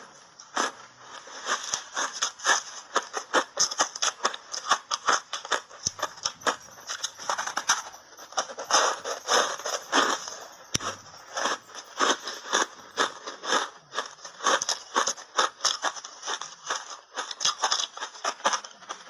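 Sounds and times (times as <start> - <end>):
ice crunching while chewed: 0.0 - 19.0.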